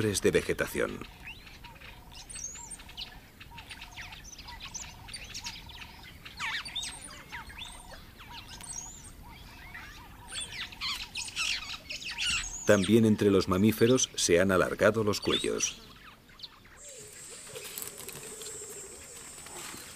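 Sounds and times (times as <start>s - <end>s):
birds chirping and whistling: 0.9s - 19.9s.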